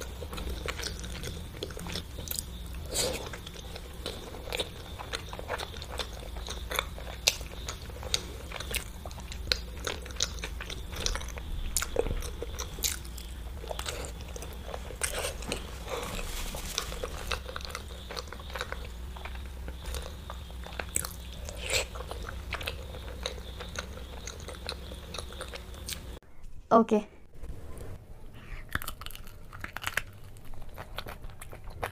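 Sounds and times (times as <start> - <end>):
person chewing and biting: 0.0 - 26.2, 28.5 - 31.9
steady low hum: 0.0 - 31.9.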